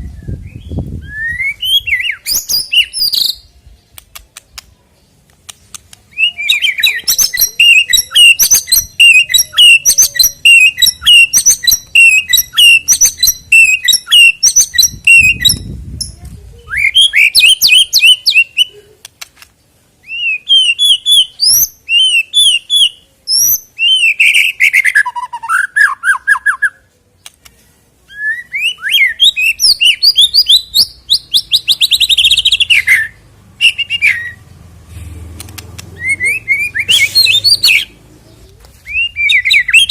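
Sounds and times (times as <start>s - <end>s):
bird singing varied song: 0.0s - 34.8s, 35.6s - 39.9s.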